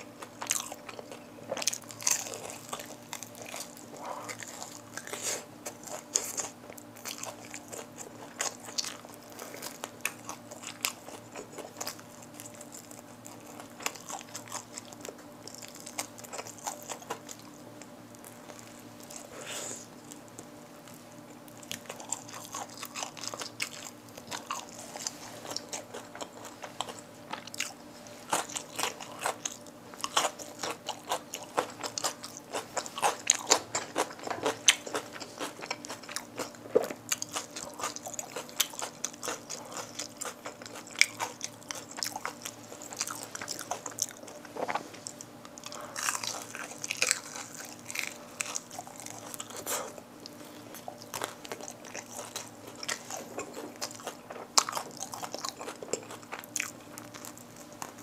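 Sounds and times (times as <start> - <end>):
crunchy chewing of fried chicken: 0.0 - 58.0.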